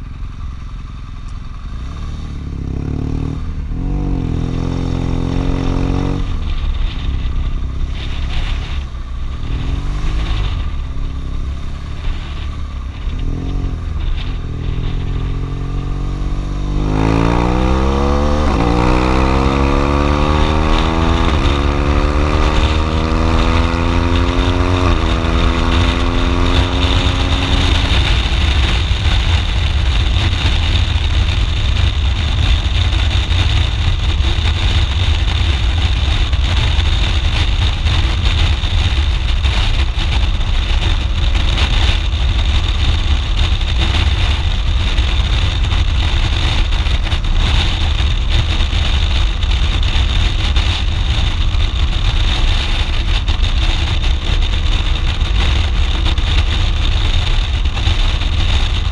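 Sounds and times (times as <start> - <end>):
motorcycle engine: 0.0 - 58.9
wind buffeting microphone: 3.6 - 58.9.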